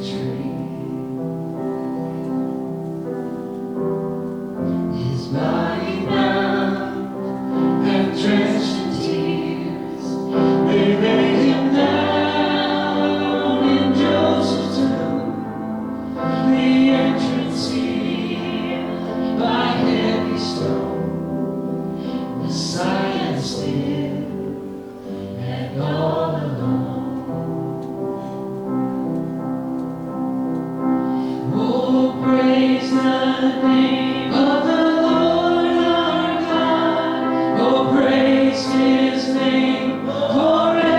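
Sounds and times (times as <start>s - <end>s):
congregation singing a hymn: 0.0s - 40.9s.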